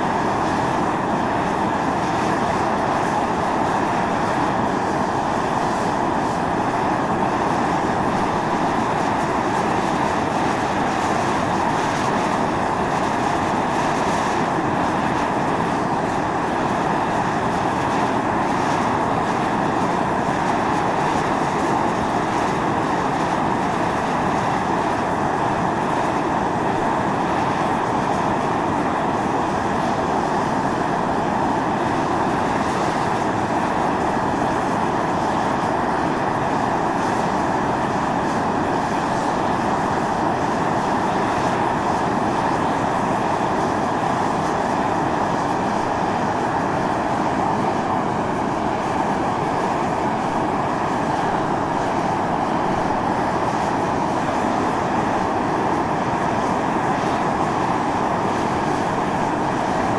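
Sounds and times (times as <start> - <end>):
fumarole venting steam hiss: 0.0 - 59.9.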